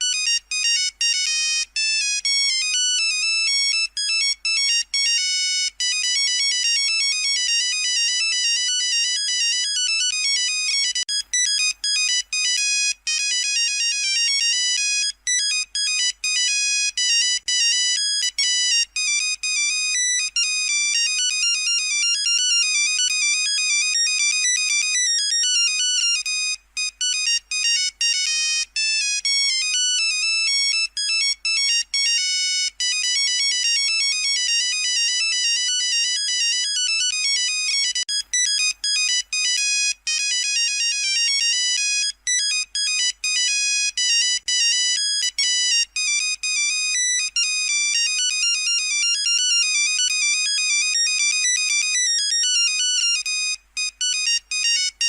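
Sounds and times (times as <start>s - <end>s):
beeping phone ringtone melody: 0.0s - 55.0s.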